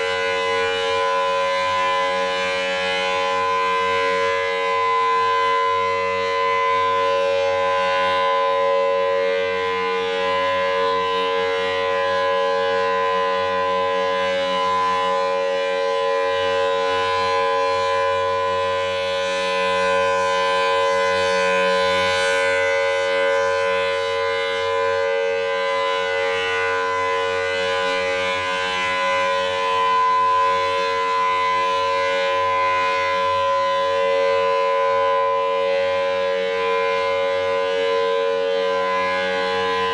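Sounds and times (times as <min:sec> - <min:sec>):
siren steady tone: 0:02.9 - 0:39.9.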